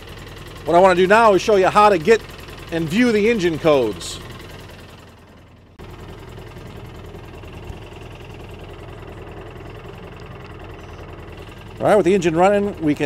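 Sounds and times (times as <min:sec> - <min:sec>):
engine idling and misfiring: 0:00.0 - 0:13.0.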